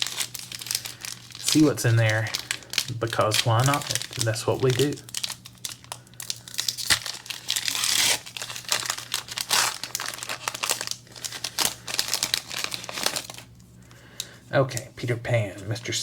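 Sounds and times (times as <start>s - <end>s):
wrapper tearing: 0.0s - 13.5s
wrapper crinkling: 0.0s - 13.6s.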